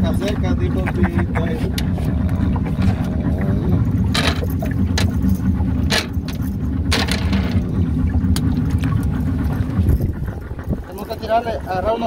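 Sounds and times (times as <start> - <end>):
outboard motor rumbling: 0.0 - 12.0.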